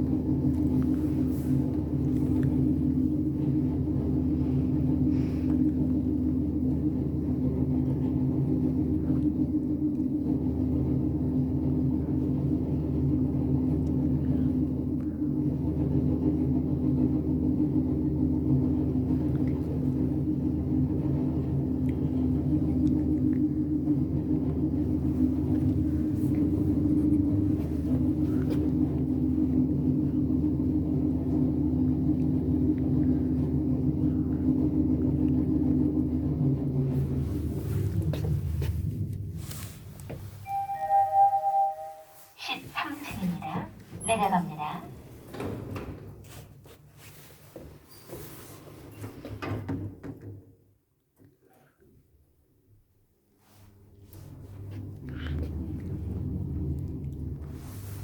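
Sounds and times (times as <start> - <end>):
elevator rumble and hum: 0.0 - 50.4, 53.1 - 58.0.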